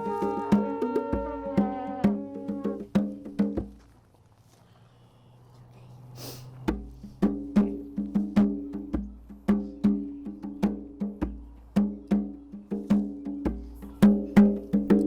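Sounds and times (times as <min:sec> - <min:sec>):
hand drum strikes: 0:00.0 - 0:03.8, 0:06.6 - 0:15.0.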